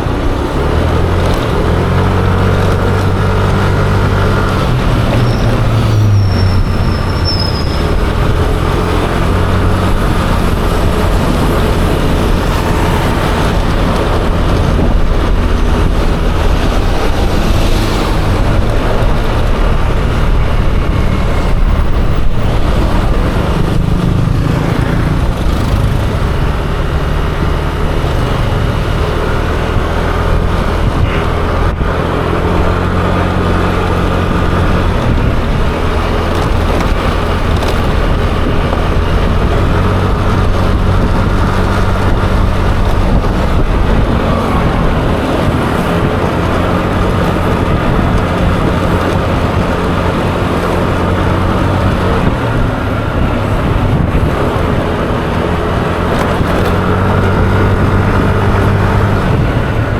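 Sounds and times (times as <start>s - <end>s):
road noise: 0.0s - 59.9s
scooter engine running: 0.0s - 59.9s.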